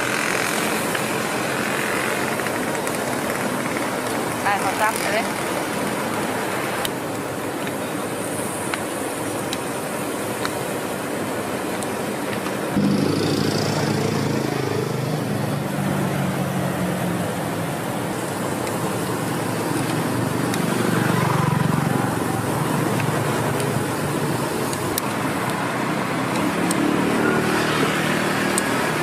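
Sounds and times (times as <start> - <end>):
steady traffic noise: 0.0 - 29.0.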